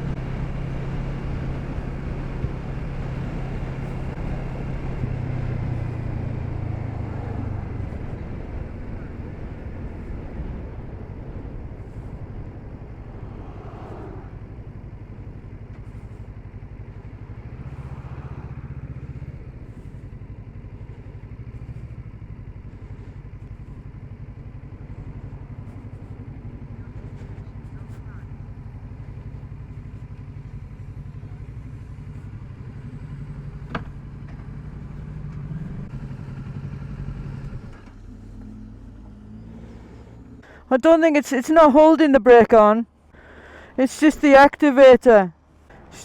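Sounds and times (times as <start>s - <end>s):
motorcycle engine running: 0.0s - 40.7s.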